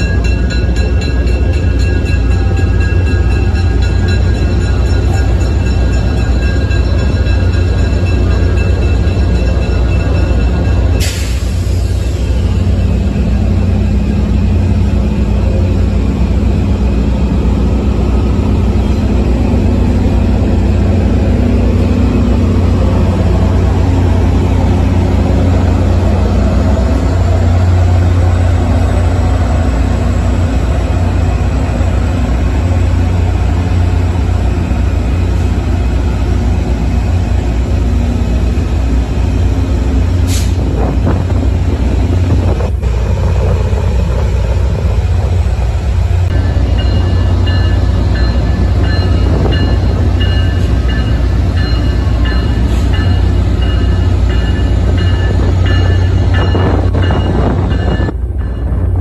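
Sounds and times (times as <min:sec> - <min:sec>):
locomotive bell ringing: 0:00.0 - 0:40.3, 0:46.0 - 0:59.0
diesel locomotive rumbling: 0:00.0 - 0:59.0.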